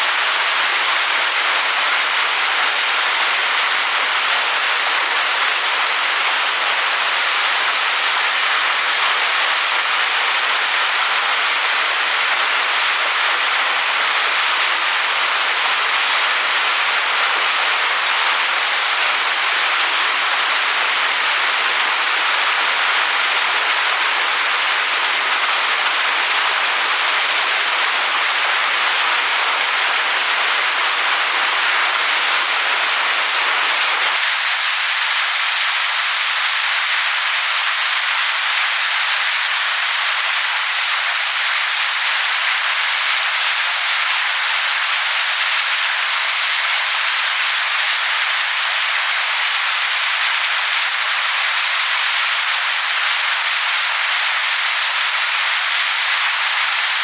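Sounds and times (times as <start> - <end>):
waterfall splashing onto stones: 0.0 - 57.0.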